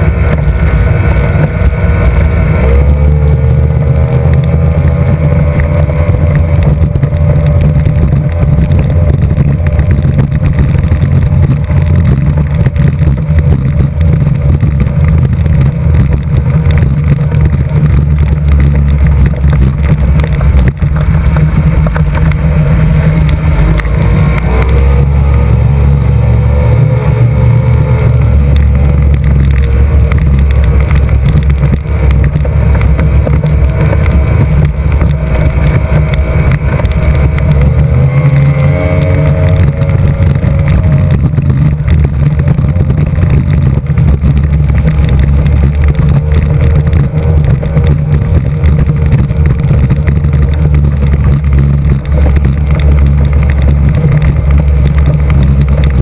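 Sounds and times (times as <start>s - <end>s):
outboard engine running hard: 0.0s - 56.0s
rushing water: 0.0s - 56.0s
wind: 0.0s - 56.0s.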